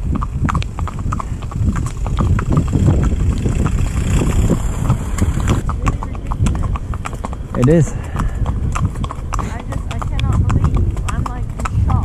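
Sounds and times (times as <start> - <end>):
hooves clip-clopping on tarmac: 0.0 - 12.0
car passing: 0.8 - 12.0.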